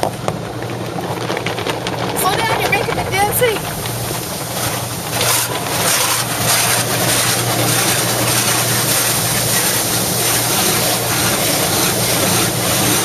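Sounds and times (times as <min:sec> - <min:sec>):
low machine hum: 0:00.0 - 0:13.0
water spray rushing: 0:02.2 - 0:13.0.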